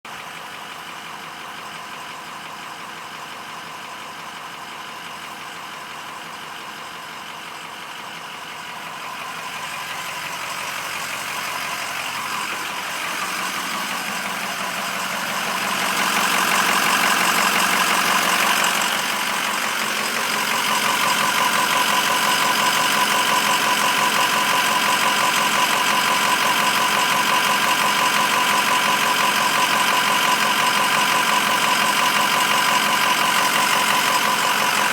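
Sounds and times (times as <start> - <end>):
diesel engine idling with knock: 0.1 - 34.9.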